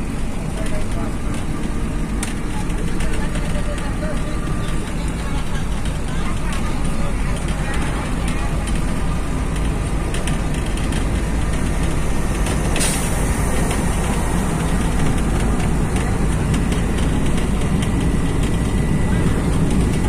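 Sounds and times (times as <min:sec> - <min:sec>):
bus body rattling: 0:00.0 - 0:20.0
bus engine and road noise: 0:00.0 - 0:20.0.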